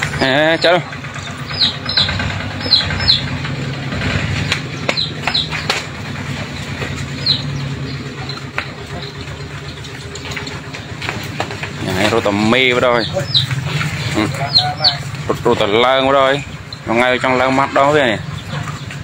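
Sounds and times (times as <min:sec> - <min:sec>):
engine idling: 0:00.0 - 0:19.0
small birds chirping: 0:00.0 - 0:19.0.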